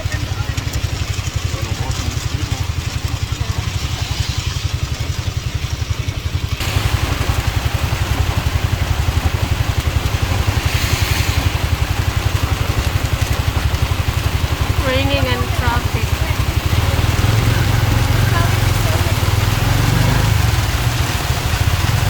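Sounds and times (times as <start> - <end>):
rain hissing: 0.0 - 22.0
small engine idling: 0.0 - 22.0.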